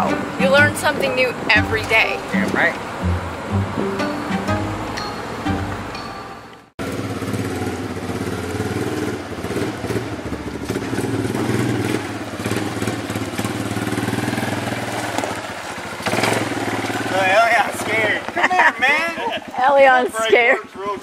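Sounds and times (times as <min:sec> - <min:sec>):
atv engine running: 0:00.0 - 0:06.2, 0:06.8 - 0:21.0.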